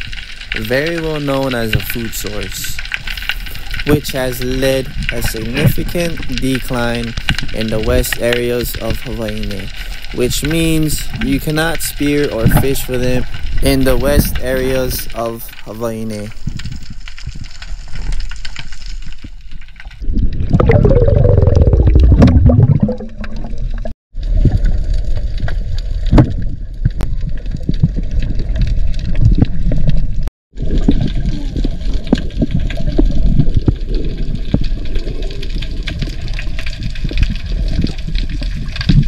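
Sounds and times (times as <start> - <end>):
gurgling bubbling rush: 0.0 - 15.4, 20.0 - 39.0
crackling clicks: 0.0 - 39.0
underwater water noise: 0.0 - 39.0.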